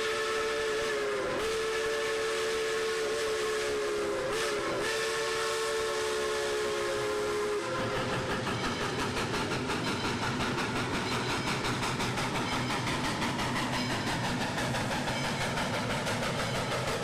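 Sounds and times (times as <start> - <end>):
locomotive exhaust chuffing: 0.0 - 17.0
steam locomotive whistle: 0.0 - 17.0.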